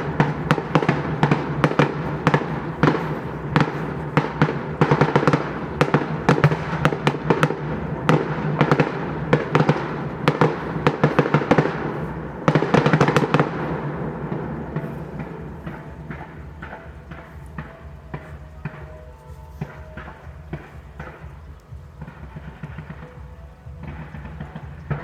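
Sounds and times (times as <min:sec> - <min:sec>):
continuous rumble: 0:00.0 - 0:25.0
fireworks bangs and crackles: 0:00.0 - 0:25.0.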